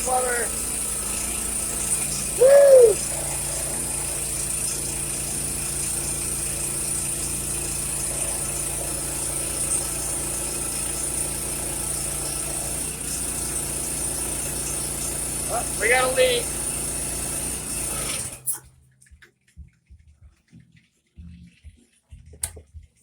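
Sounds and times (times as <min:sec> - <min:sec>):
small gasoline engine idling: 0:00.0 - 0:18.6.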